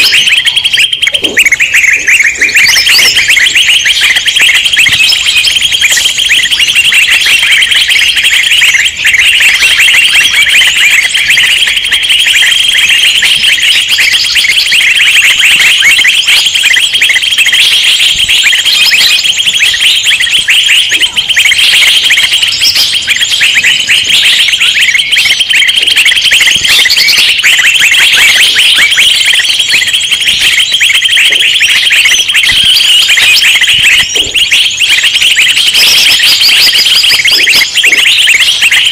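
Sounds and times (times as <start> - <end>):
songbird flock chattering: 0.0 - 38.9.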